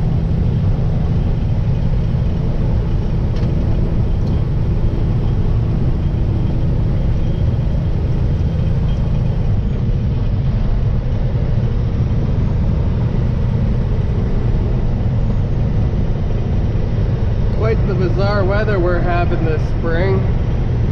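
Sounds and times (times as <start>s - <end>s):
vehicle engine and road noise: 0.0s - 20.9s.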